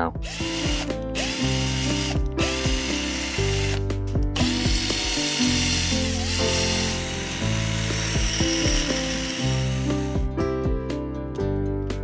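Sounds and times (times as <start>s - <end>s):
background music: 0.0s - 12.0s
power drill drilling: 0.2s - 10.3s.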